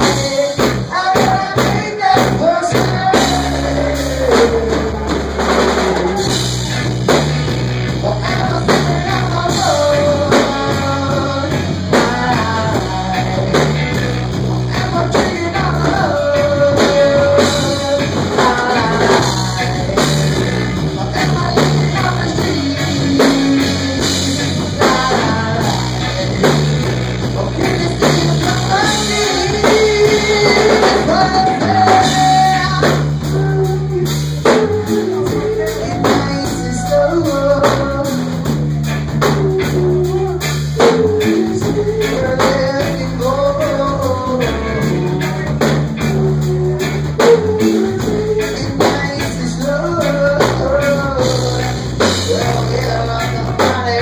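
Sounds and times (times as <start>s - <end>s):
drum kit: 0.0s - 54.0s
electric bass: 0.0s - 54.0s
electric guitar: 0.0s - 54.0s
person singing: 0.0s - 54.0s.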